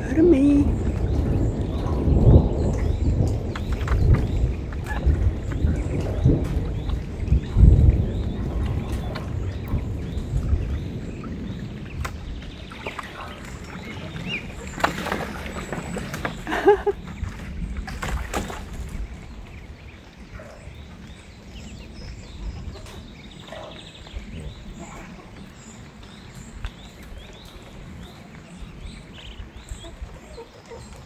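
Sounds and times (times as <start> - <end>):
ducks splashing water: 0.0 - 31.0.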